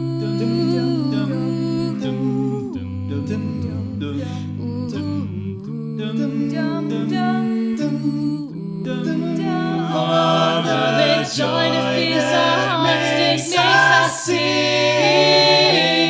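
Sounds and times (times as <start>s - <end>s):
vocal group singing harmony: 0.0s - 16.0s.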